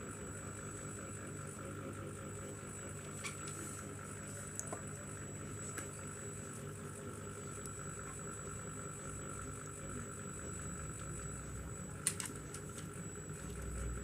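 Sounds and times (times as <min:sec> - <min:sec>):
steady hum with high whine: 0:00.0 - 0:14.0.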